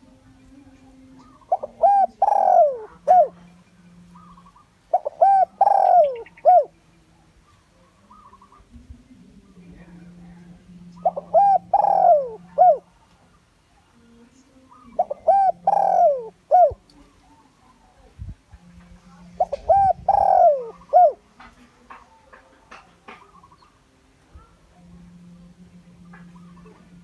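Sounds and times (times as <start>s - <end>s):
dove cooing: 0.0s - 9.1s, 9.7s - 13.9s, 14.6s - 18.0s, 19.4s - 27.0s.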